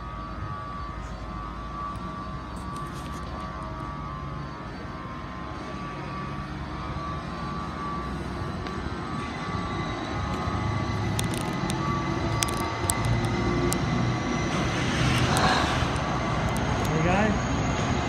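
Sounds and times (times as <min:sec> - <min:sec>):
high whine: 0:00.0 - 0:18.0
train engine rumble: 0:00.0 - 0:18.0.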